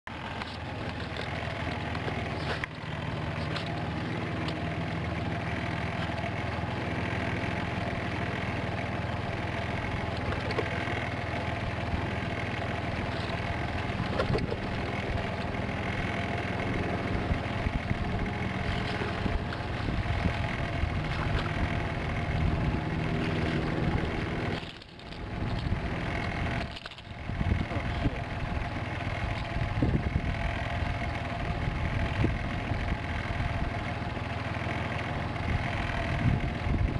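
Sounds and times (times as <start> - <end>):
boat motor humming: 0.1 - 36.9.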